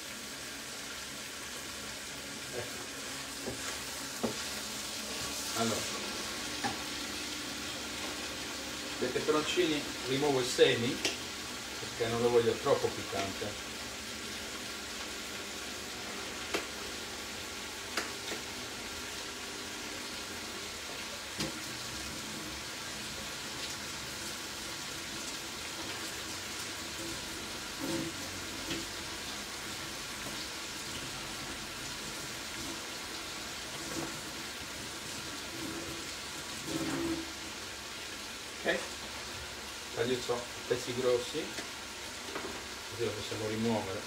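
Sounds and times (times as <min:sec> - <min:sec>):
offal sizzling in a pan: 0:00.0 - 0:44.0.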